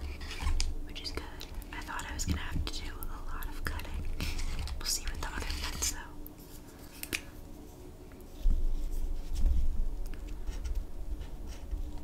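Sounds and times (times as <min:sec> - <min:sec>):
low rumbling handling sounds: 0:00.0 - 0:12.0.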